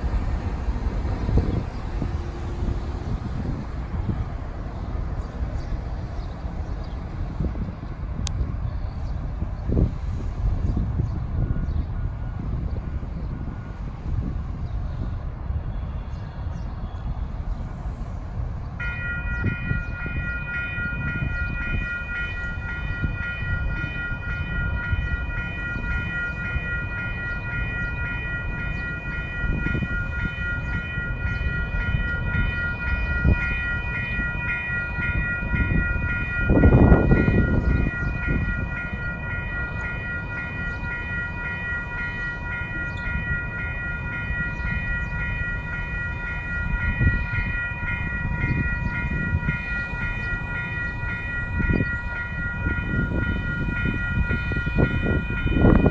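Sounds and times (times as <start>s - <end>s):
freight train rumbling: 0.0s - 55.9s
light rail vehicle approaching: 0.0s - 55.9s.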